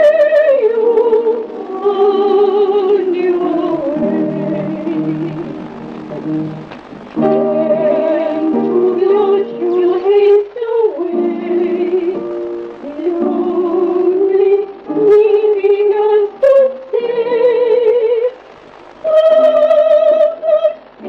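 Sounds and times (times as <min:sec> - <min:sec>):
two women singing: 0:00.0 - 0:05.9, 0:07.2 - 0:18.4, 0:19.0 - 0:21.0.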